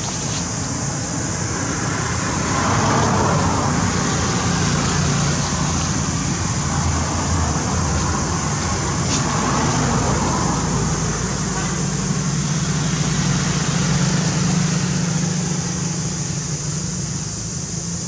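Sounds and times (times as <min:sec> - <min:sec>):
passing vehicles: 0:00.0 - 0:18.0.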